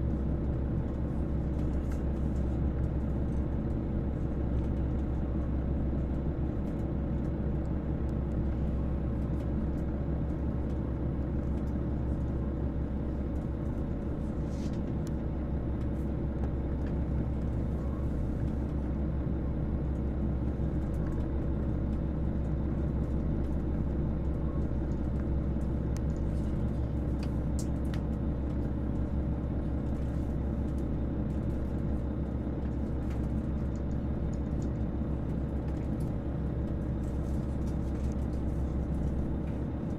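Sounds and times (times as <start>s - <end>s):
diesel train engine rumble: 0.0s - 39.9s.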